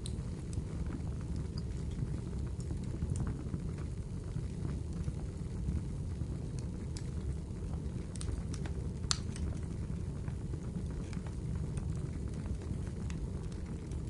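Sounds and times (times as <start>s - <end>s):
fire crackling and popping: 0.0s - 14.0s
low roar of flames: 0.0s - 14.0s.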